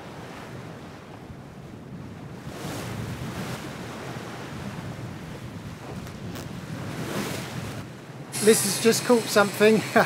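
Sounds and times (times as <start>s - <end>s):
wind on microphone: 0.0s - 8.4s
choppy sea splashing: 0.0s - 10.0s.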